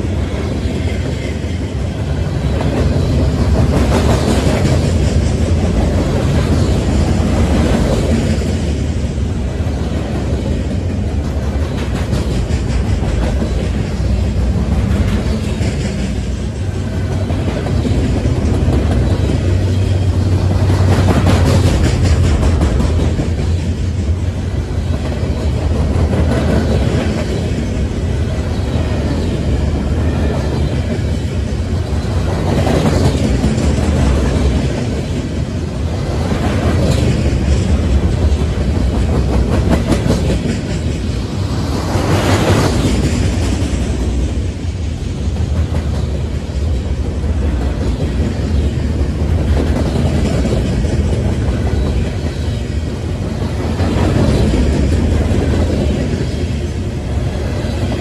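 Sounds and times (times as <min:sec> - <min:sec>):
freight train wheels rumbling on rail: 0:00.0 - 0:58.0.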